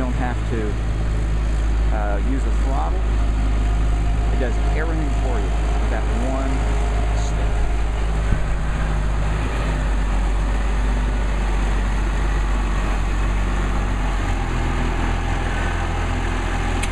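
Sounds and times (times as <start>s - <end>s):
tractor diesel engine idling: 0.0s - 16.9s.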